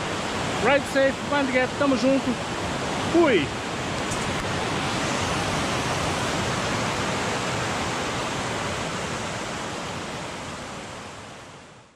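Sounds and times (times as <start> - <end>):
river rapids roaring: 0.0 - 11.8.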